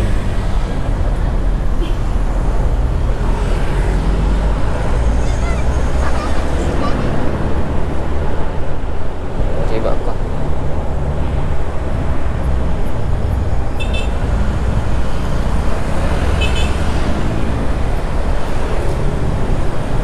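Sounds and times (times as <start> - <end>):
bus engine rumbling: 0.0 - 20.0
wind and road noise: 0.0 - 20.0.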